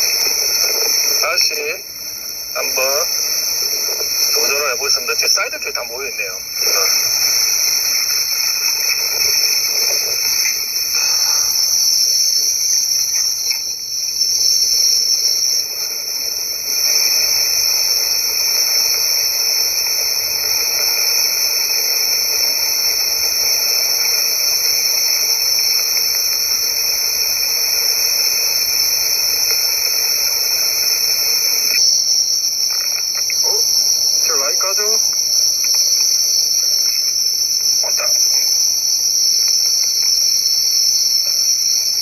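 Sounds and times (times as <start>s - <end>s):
insects buzzing: 0.0s - 42.0s.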